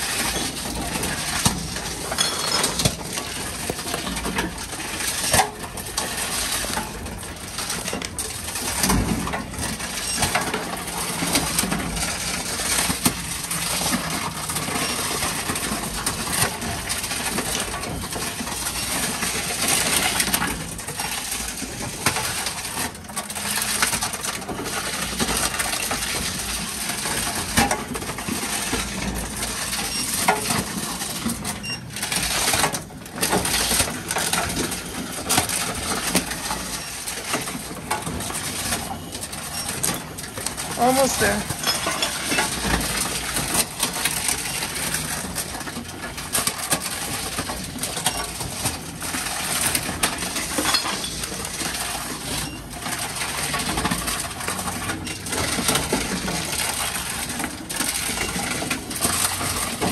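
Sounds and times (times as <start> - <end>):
vending machine crushing bottles: 0.0 - 59.9.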